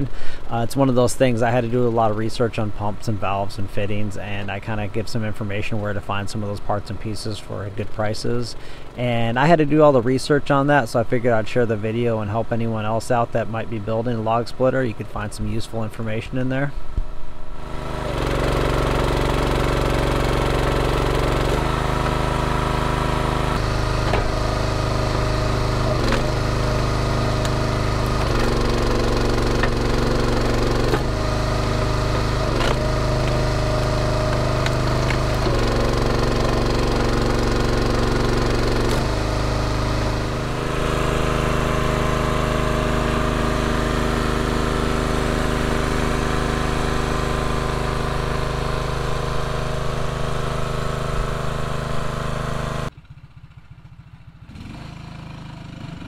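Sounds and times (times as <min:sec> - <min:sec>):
engine running under load: 0:00.0 - 0:14.3, 0:17.4 - 0:56.0.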